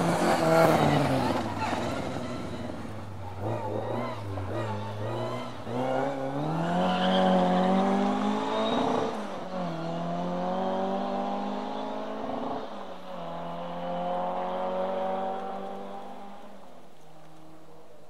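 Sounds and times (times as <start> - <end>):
rally car engine at high revs: 0.0 - 17.7.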